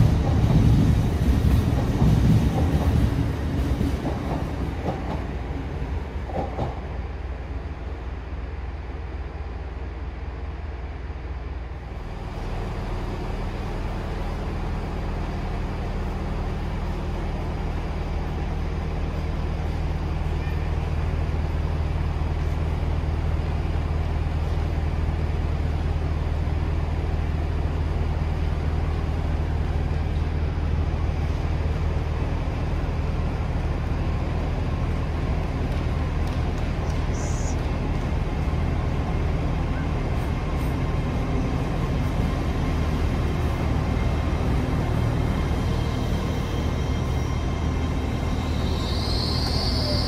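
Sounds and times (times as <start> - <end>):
train engine humming: 0.0 - 50.0.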